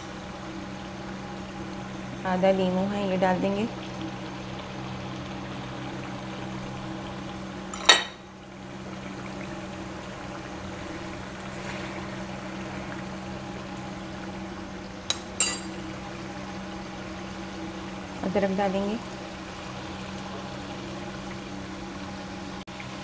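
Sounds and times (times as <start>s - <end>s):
gravy simmering and sizzling: 0.0s - 23.0s
steady low hum: 0.0s - 23.0s.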